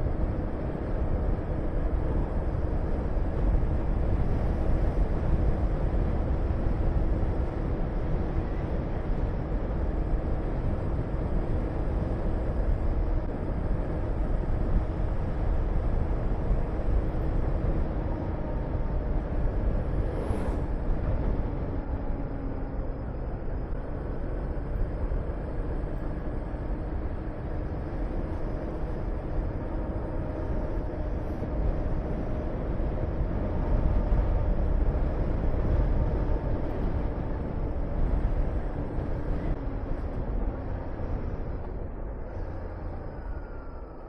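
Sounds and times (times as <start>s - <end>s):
wind rush on microphone: 0.0s - 44.0s.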